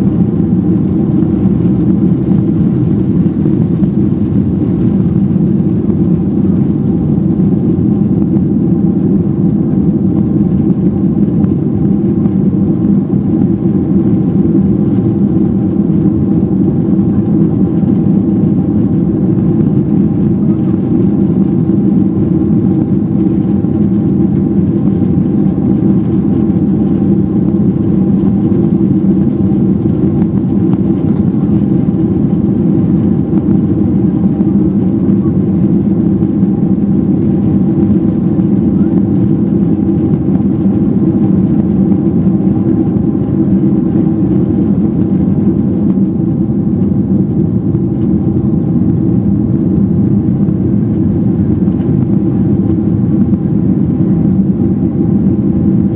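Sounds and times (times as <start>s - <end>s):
faint steady hum: 0.0s - 55.9s
jet engine rumble in cabin: 0.0s - 55.9s.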